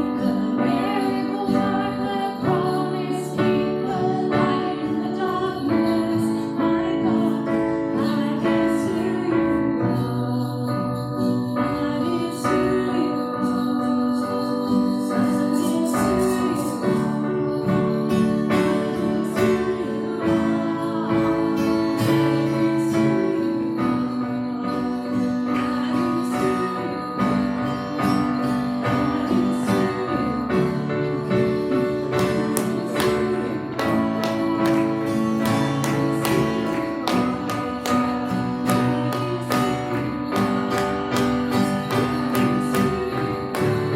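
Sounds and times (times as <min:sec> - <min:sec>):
strummed acoustic guitar: 0:00.0 - 0:43.9.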